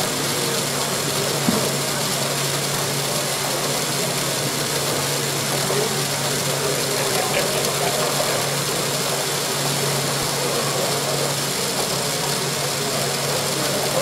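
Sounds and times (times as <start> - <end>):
exhibition hall noise: 0.0 - 14.0
model engine whirring: 2.1 - 14.0.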